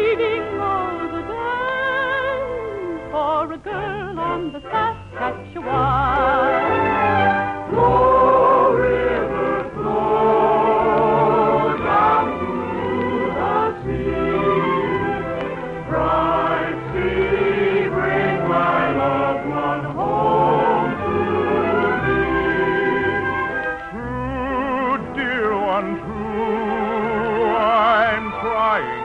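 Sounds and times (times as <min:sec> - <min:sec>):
chorus singing show tune: 0:00.0 - 0:29.0
orchestral accompaniment: 0:00.0 - 0:29.0.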